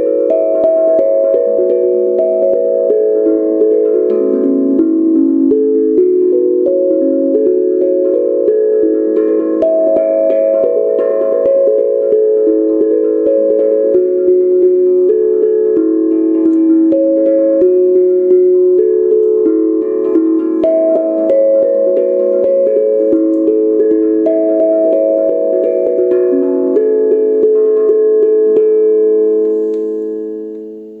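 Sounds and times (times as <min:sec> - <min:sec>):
steel tongue drum ringing notes: 0:00.0 - 0:31.0.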